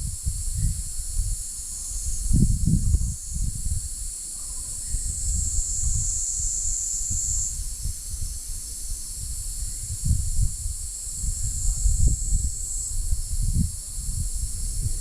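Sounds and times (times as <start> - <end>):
insect chorus buzzing: 0.0 - 15.0
loud insect call: 0.0 - 15.0
wind rumble on microphone: 0.0 - 15.0.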